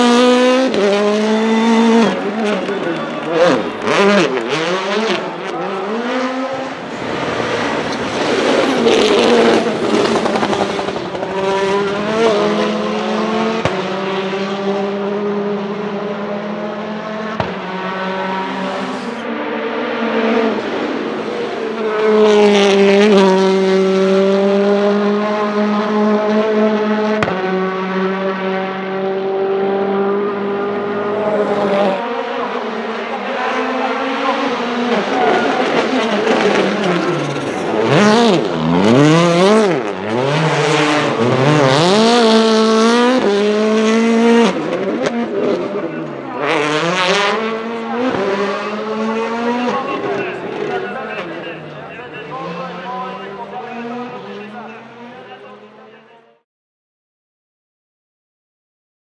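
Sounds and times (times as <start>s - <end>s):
rally car engine revving: 0.0s - 56.1s.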